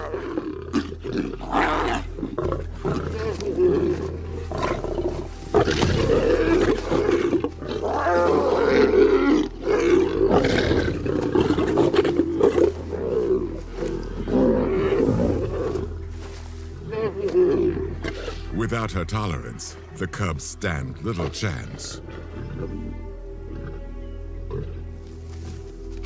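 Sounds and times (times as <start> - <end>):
lions snarling and growling: 0.0 - 16.2, 16.8 - 18.6, 21.2 - 25.0.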